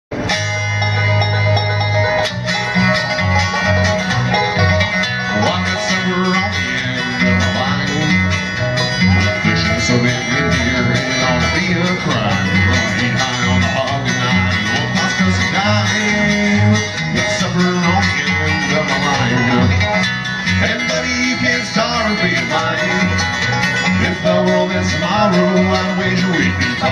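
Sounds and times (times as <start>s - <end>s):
banjo picking: 0.1s - 26.9s
guitar picking: 0.1s - 26.9s
low bass notes: 0.1s - 26.9s.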